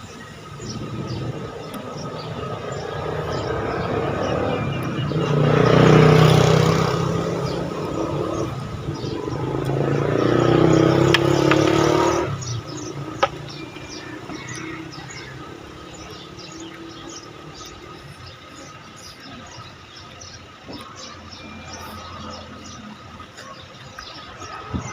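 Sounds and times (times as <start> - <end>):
faint chirps: 0.0 - 24.9
vehicle engine running: 0.0 - 24.9.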